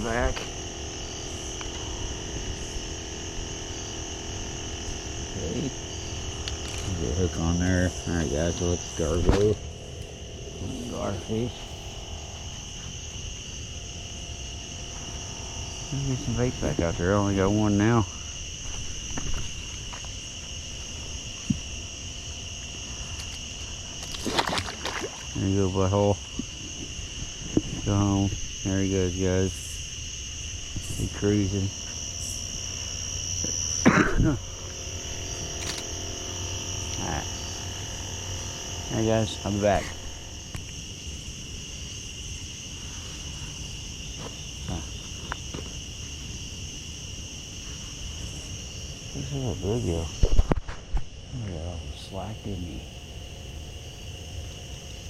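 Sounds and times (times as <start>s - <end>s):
crickets chirring: 0.0s - 55.0s
insects trilling: 0.0s - 55.0s.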